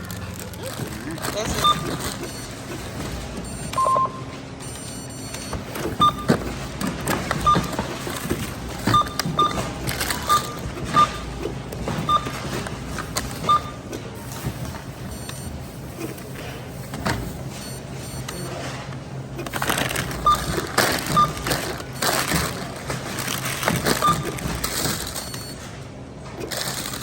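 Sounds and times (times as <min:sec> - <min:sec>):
items being handled: 0:00.0 - 0:27.0
barcode scanner beeps: 0:01.0 - 0:16.1, 0:17.5 - 0:18.8, 0:19.5 - 0:22.7, 0:23.3 - 0:25.6.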